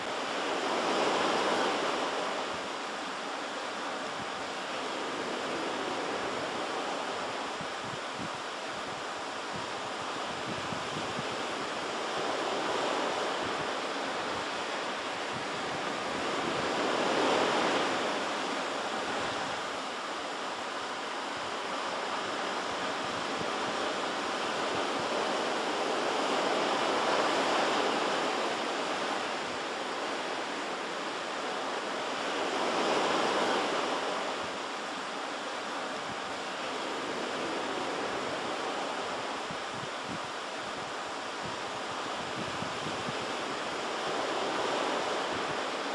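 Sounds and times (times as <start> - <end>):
ocean surf breaking on shore: 0.0 - 45.9.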